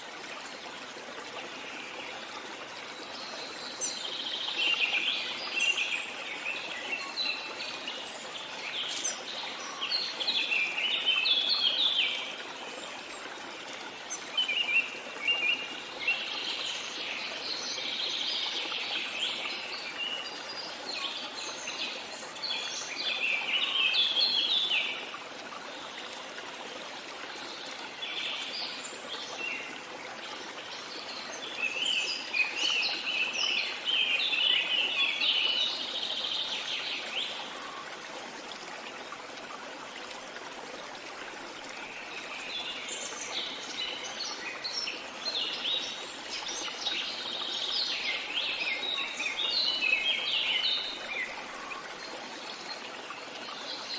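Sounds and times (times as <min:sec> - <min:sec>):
stream rushing: 0:00.0 - 0:53.9
songbirds chirping: 0:00.4 - 0:53.9.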